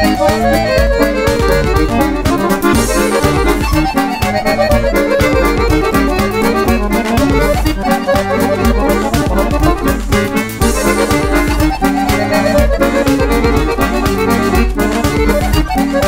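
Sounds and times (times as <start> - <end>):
button accordion melody: 0.0 - 16.0.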